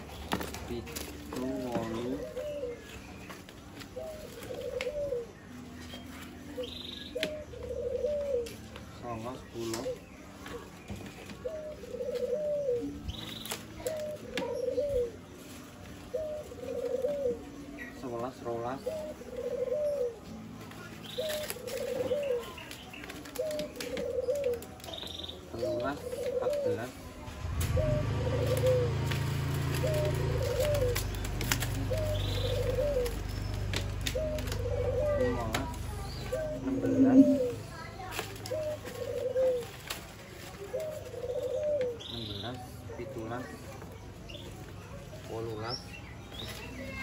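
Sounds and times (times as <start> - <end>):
dove cooing: 0.0 - 47.0.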